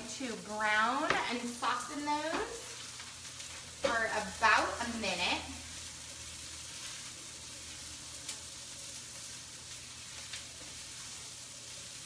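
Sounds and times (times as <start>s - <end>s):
onion sizzling in a frying pan: 0.0s - 12.0s.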